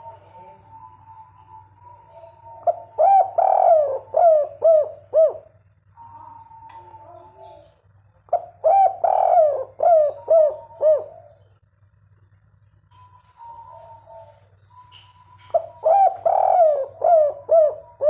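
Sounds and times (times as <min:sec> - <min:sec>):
dove cooing: 0:00.0 - 0:11.5, 0:13.1 - 0:18.0
low steady hum: 0:00.0 - 0:18.0.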